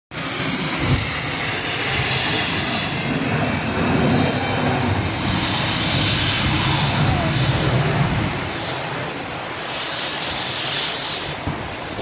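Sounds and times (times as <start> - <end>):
jet boat engine whine: 0.1 - 12.0
rushing water wash: 0.1 - 12.0.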